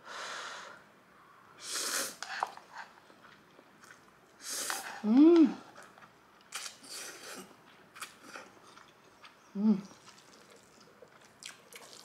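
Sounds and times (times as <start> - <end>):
person chewing noodles: 2.2 - 12.0.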